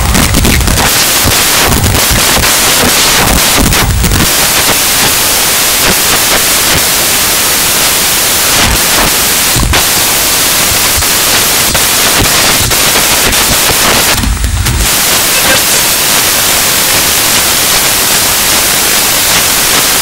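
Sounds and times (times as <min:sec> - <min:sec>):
loud static hiss: 0:00.0 - 0:20.0.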